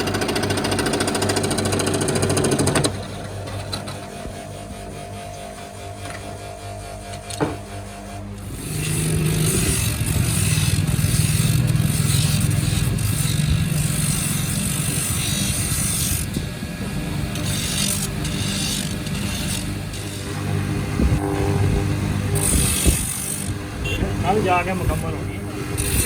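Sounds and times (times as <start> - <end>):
motor running roughly: 0.0 - 26.0.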